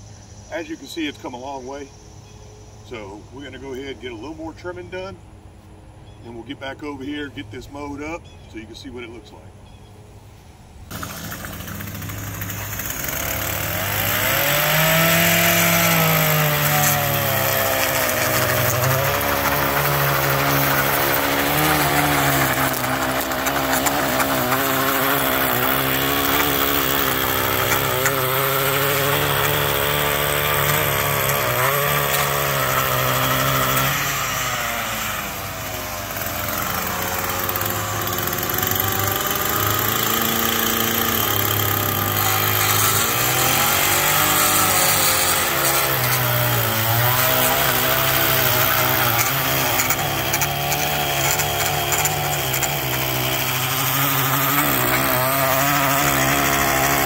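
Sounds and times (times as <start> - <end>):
string trimmer engine: 10.9 - 57.0.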